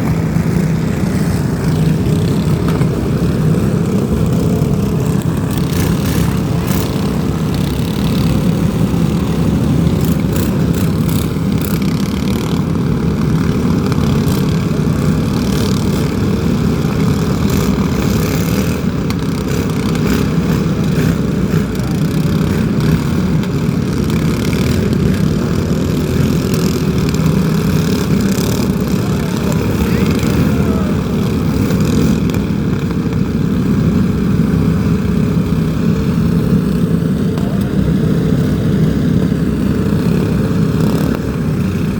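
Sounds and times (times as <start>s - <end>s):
loud engine running: 0.0s - 41.9s.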